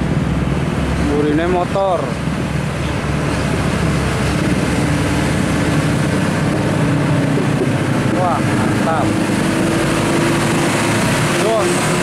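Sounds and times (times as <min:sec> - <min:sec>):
truck diesel engine passing: 0:00.0 - 0:12.0.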